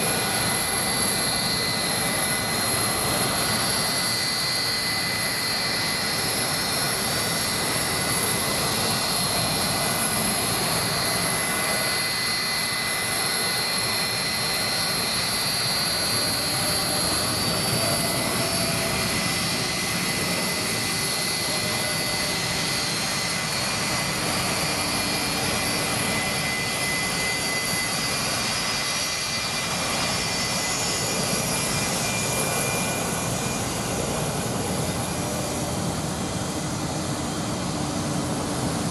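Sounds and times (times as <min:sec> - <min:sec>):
high-pitched engine whine: 0:00.0 - 0:38.9
jet engine rush: 0:00.0 - 0:38.9.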